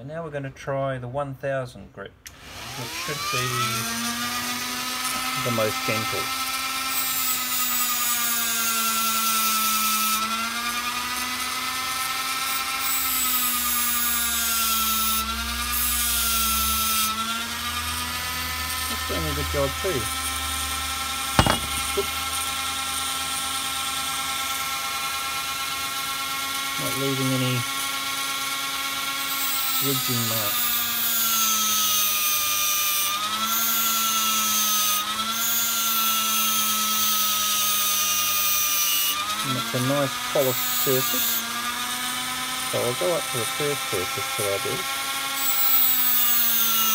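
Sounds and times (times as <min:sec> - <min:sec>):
rotary tool motor whine: 0:02.3 - 0:46.9.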